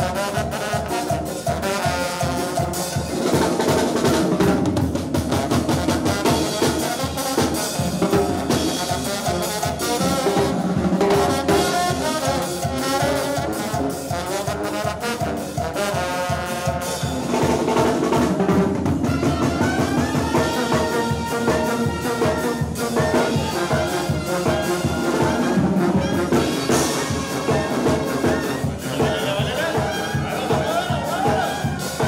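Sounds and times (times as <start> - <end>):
trumpets and clarinets melody: 0.0 - 32.0.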